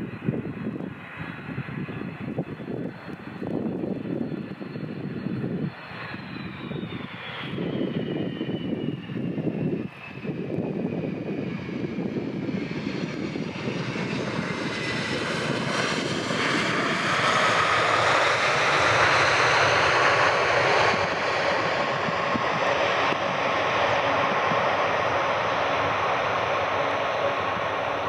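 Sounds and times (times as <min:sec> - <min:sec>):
jet engines rushing and whining: 0:00.0 - 0:28.0.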